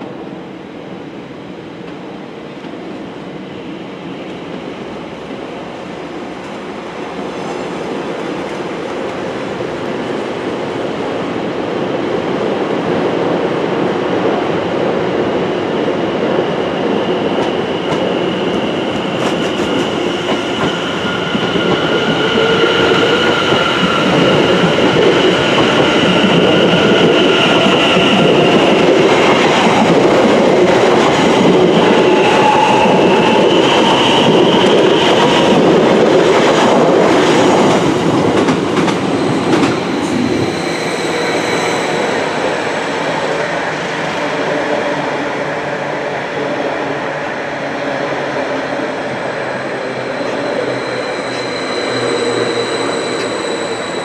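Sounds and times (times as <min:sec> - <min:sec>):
high train whine: 0:00.0 - 0:54.0.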